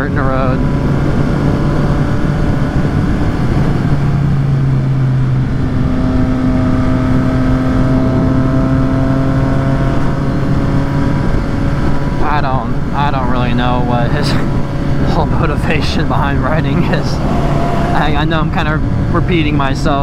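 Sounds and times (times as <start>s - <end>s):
motorcycle engine running: 0.0s - 20.0s
wind rush: 0.0s - 20.0s.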